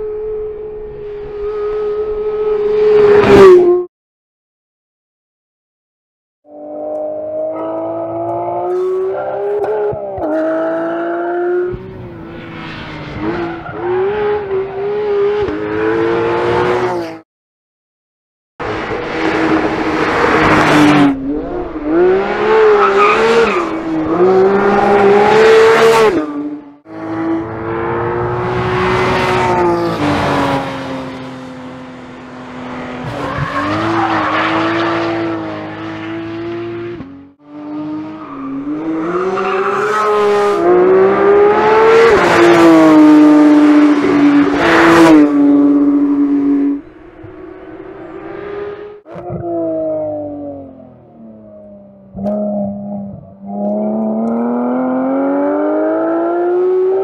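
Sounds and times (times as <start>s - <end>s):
car engine at high revs: 6.5s - 17.2s, 18.6s - 57.0s.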